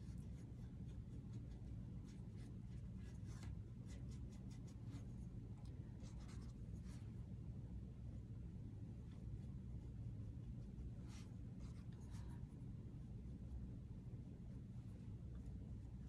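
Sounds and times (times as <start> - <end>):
paintbrush scratchy strokes: 0.0 - 7.3, 9.0 - 16.0
steady low hum: 0.0 - 16.0.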